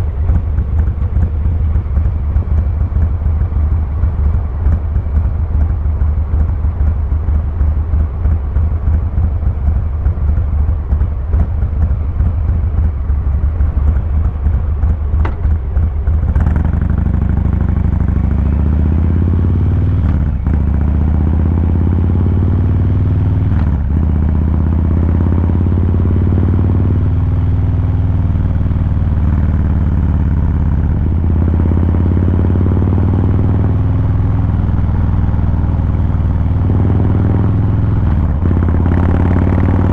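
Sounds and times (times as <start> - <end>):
motorcycle idling and accelerating: 0.0 - 39.9.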